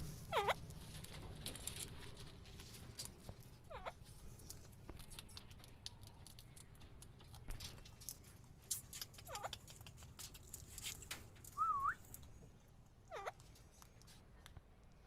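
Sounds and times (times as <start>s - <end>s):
light clicks and scratching: 0.0s - 12.7s, 13.3s - 15.0s.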